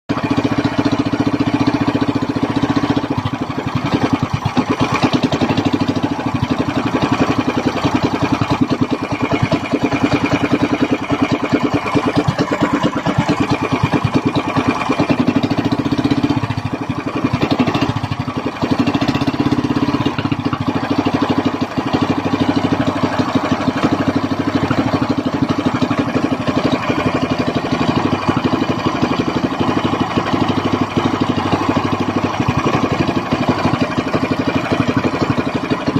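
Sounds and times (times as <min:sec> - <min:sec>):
boat engine running loudly: 0:00.1 - 0:35.9.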